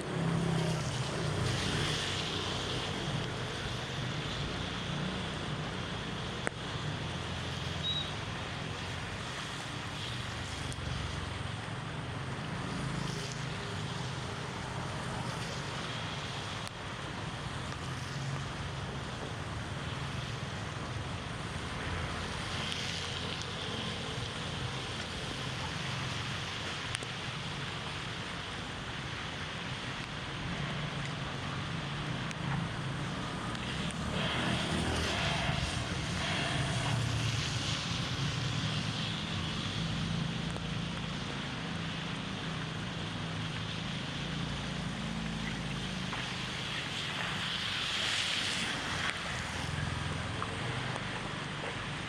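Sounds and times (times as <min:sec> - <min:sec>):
flowing floodwater: 0:00.0 - 0:52.0
heavy rain: 0:00.0 - 0:52.0.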